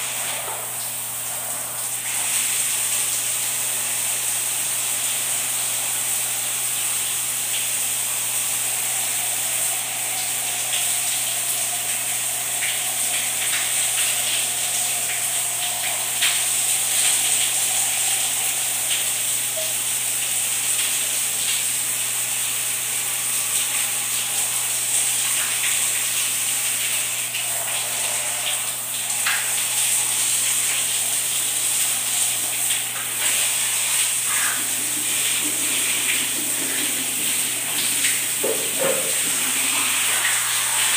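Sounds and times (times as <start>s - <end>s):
shower water running: 0.0s - 40.9s.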